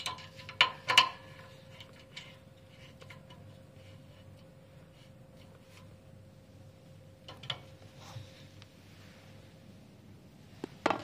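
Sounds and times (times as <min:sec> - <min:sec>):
thin steady hum: 0:00.0 - 0:11.0.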